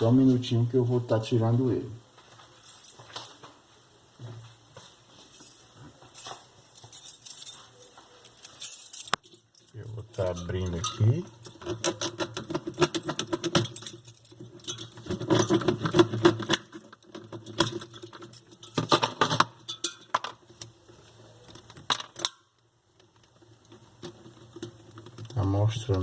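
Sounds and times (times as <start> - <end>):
hand tools and metal parts clinking: 2.2 - 3.6, 4.2 - 20.7, 21.4 - 26.0.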